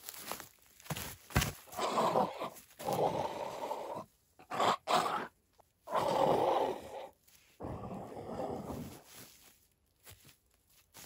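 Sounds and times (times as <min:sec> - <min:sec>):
rustling of moss and grass: 0:00.0 - 0:04.4, 0:05.4 - 0:11.0.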